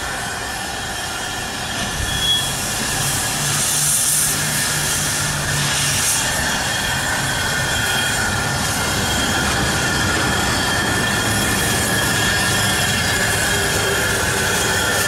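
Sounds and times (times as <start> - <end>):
steam locomotive rumbling: 0.0 - 15.0
wheel flanges squealing: 0.0 - 15.0.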